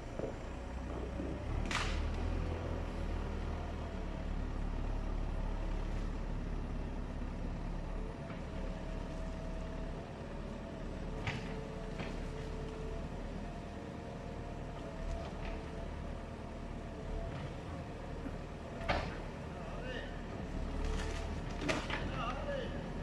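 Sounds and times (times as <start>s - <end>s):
heavy vehicle engine rumbling: 0.0s - 23.0s.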